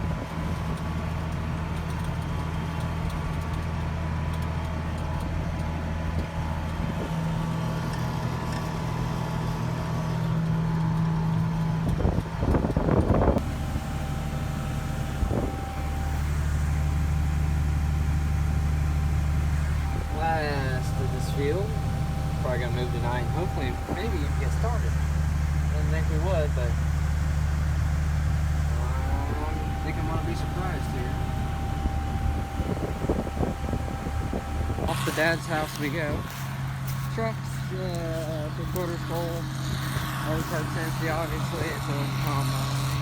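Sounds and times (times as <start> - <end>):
combine engine humming: 0.0 - 43.0.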